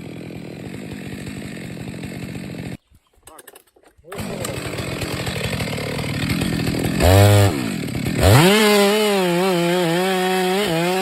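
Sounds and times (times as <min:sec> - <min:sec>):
chainsaw engine revving: 0:00.0 - 0:03.5, 0:04.1 - 0:11.0.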